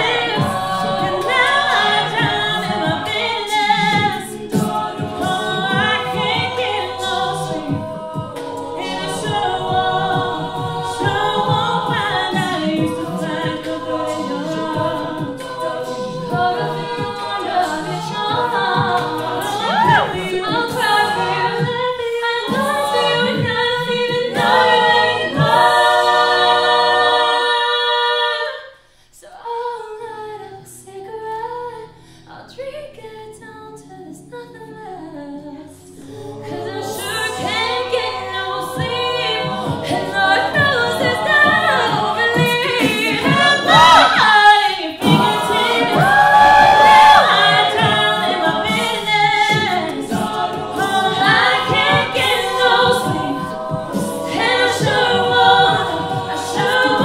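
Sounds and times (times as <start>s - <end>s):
a cappella group singing: 0.0s - 57.0s
female lead voices singing: 0.0s - 57.0s.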